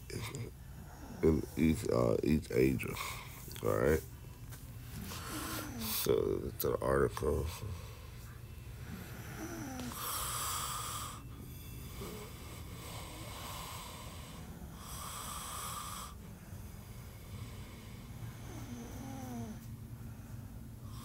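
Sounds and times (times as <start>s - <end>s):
low steady hum: 0.0s - 21.0s
noisy breathing: 0.0s - 21.0s.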